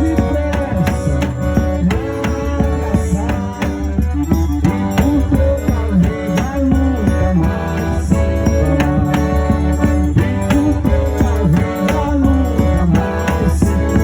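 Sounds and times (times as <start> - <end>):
band playing instrumental music: 0.0 - 14.0.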